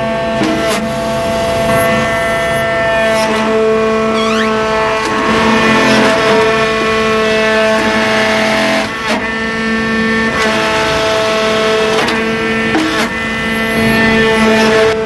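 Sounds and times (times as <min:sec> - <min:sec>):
hydraulic press hum: 0:00.0 - 0:15.0.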